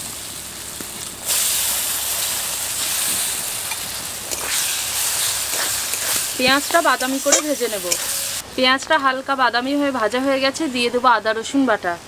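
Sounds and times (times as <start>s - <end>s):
onion sizzling in oil: 0.0s - 11.8s.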